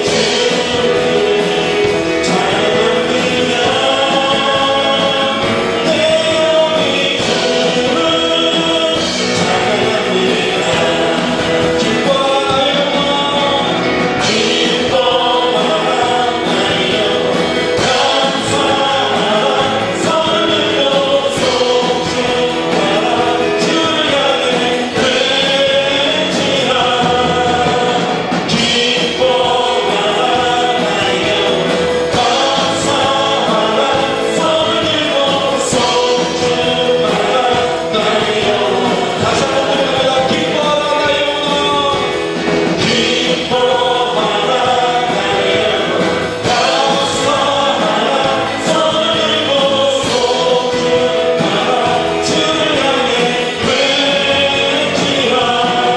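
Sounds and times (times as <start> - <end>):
voices singing praise song: 0.0 - 55.9.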